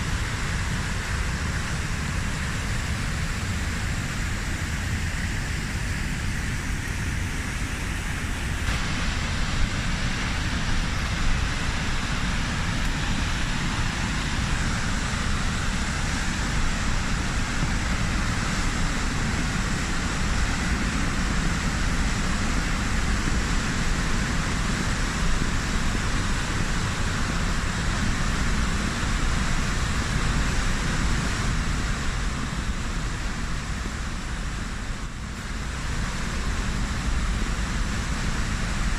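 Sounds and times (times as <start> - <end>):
waterfall rushing: 5.3 - 38.9.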